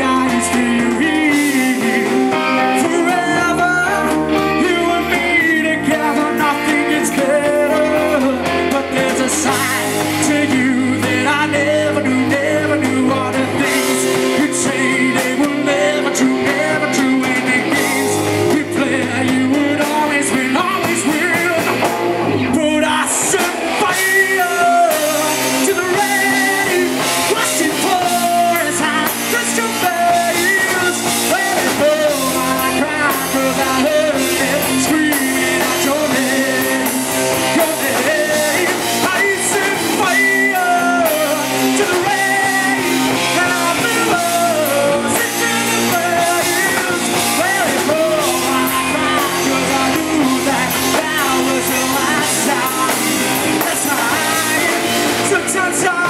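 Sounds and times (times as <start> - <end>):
bass guitar: 0.0 - 56.0
drum kit: 0.0 - 56.0
electric guitars: 0.0 - 56.0
male lead vocal: 0.0 - 56.0.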